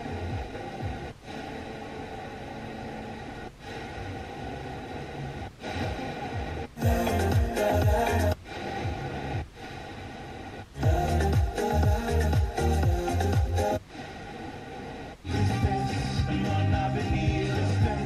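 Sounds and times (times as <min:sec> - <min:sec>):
noisy radio reception: 0:00.0 - 0:17.5
clear radio station: 0:00.0 - 0:18.0.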